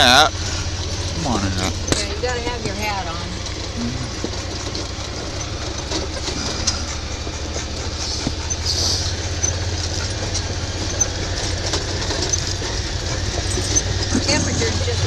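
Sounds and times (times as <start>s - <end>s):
vehicle engine droning: 0.0s - 15.0s
vehicle rattles and knocks: 0.0s - 15.0s.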